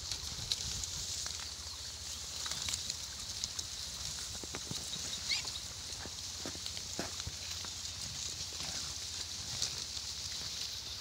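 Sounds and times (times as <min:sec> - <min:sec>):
crackling and rustling: 0:00.0 - 0:11.0
pigs rooting in dry leaves: 0:00.0 - 0:11.0.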